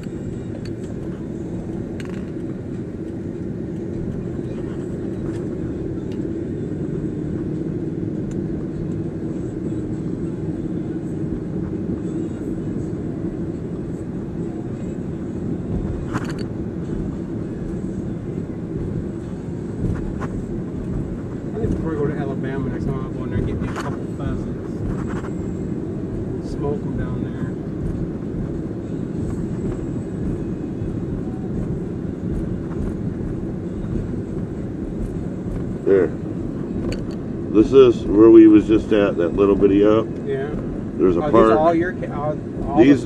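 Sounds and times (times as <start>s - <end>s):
car road and engine noise: 0.0s - 43.0s.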